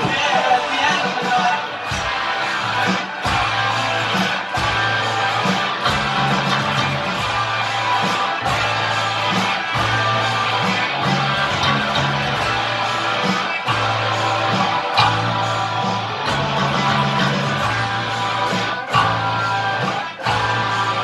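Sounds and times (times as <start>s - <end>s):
bass guitar line: 0.0s - 21.0s
electric guitars strummed: 0.0s - 21.0s.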